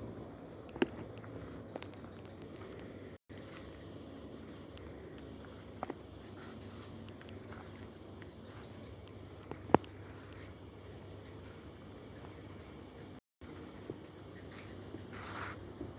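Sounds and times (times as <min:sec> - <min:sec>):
high insect drone: 0:00.0 - 0:15.9.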